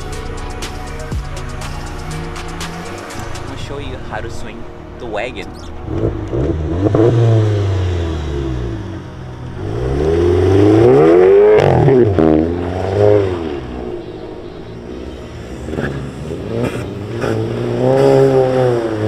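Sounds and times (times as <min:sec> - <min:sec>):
car engine revving hard: 0:02.6 - 0:19.0.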